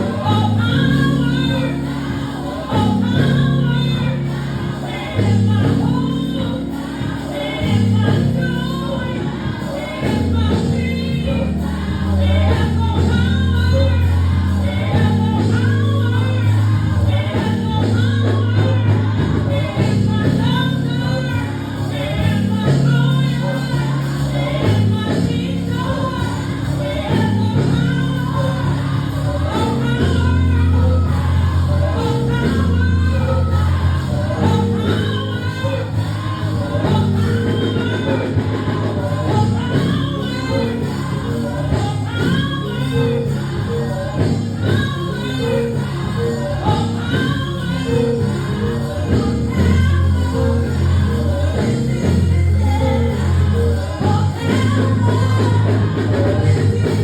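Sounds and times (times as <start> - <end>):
band accompaniment: 0.0 - 57.0
gospel choir singing: 0.0 - 57.0.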